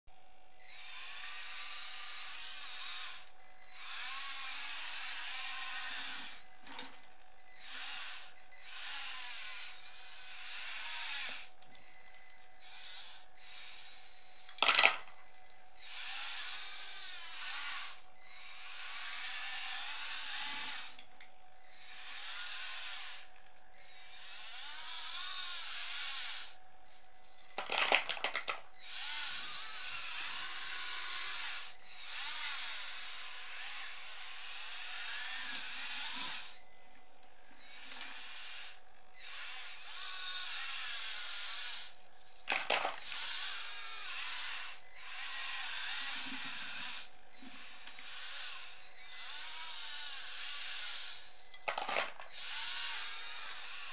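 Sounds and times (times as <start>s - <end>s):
toy electric motors whining: 0.4s - 53.9s.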